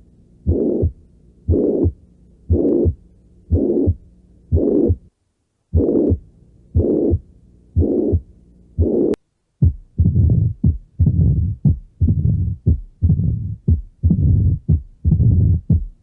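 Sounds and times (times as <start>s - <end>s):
heartbeat with murmur: 0.5s - 5.1s, 5.7s - 6.2s, 6.8s - 7.2s, 7.8s - 16.0s.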